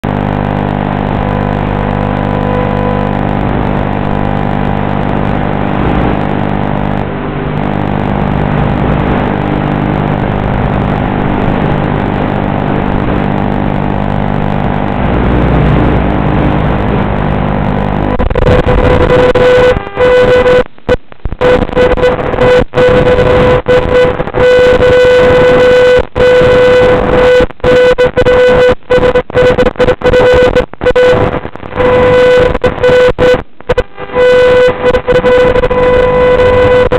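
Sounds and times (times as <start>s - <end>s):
quadcopter electrical buzz: 0.1s - 20.6s, 21.4s - 36.9s.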